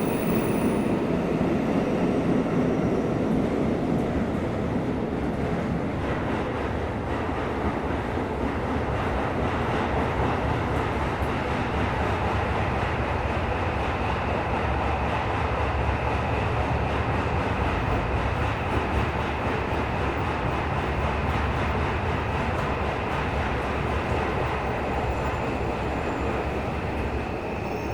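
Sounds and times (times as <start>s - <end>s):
subway train rumbling in tunnel: 0.0s - 27.9s.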